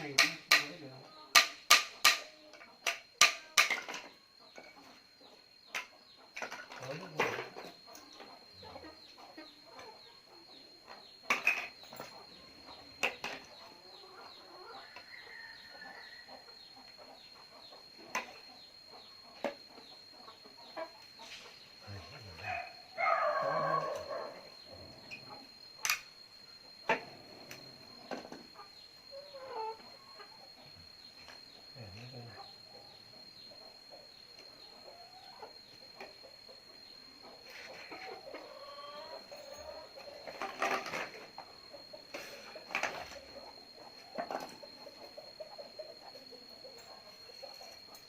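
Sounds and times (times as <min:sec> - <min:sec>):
chickens clucking: 0:00.0 - 0:31.7, 0:32.3 - 0:48.0
faint high-pitched whine: 0:00.0 - 0:48.0.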